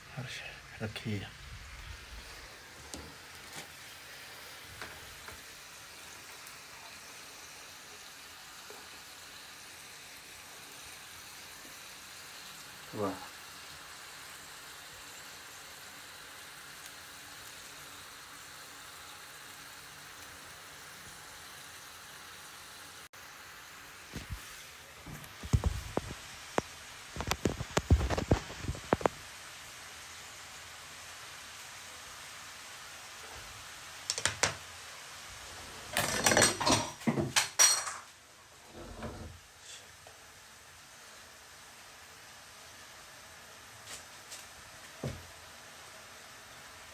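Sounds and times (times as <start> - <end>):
fish sizzling in oil: 1.4 - 38.6, 39.4 - 46.9.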